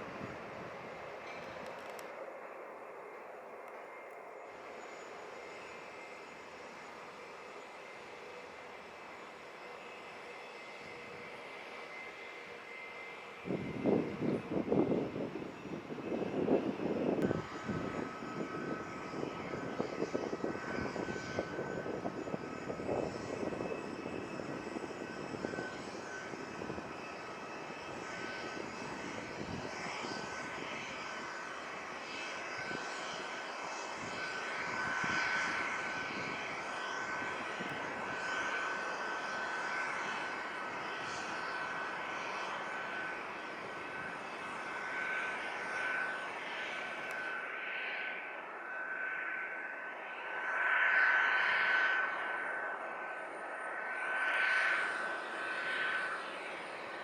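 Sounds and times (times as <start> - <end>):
jet engines rumbling with high whine: 0.0 - 57.0.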